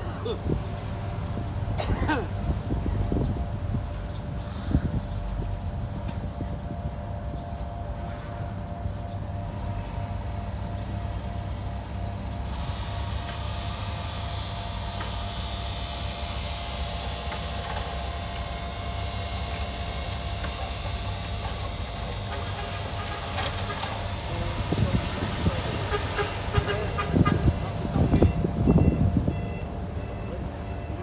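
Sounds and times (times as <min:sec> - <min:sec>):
diesel engine rumble: 0:00.0 - 0:31.0
machinery whine: 0:05.1 - 0:31.0.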